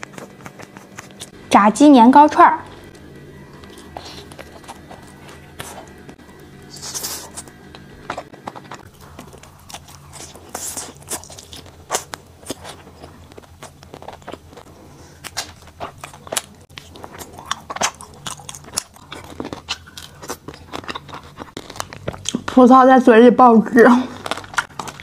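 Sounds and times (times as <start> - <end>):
chewing and crunching: 0.0 - 1.4, 2.6 - 22.7, 23.8 - 25.0
faint low hum: 0.0 - 25.0.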